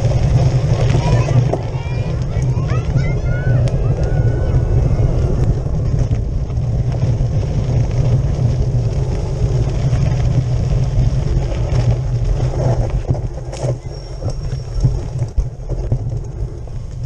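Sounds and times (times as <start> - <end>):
bike rattling: 0.0 - 17.0
tyres on gravel: 0.0 - 17.0
wind buffeting microphone: 0.0 - 17.0.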